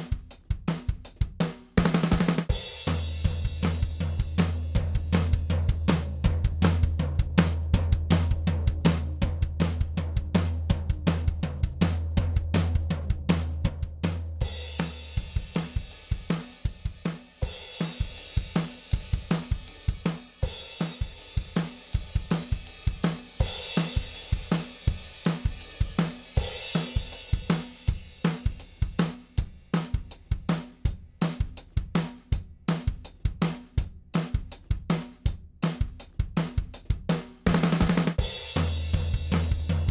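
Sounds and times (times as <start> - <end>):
drum kit playing a beat: 0.0 - 39.9.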